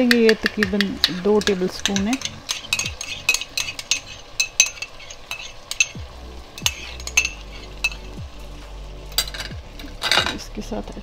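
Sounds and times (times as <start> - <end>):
spoon clinking against pot: 0.0 - 6.0, 6.6 - 8.2, 9.1 - 10.4
chicken sizzling in a pot: 0.0 - 11.0.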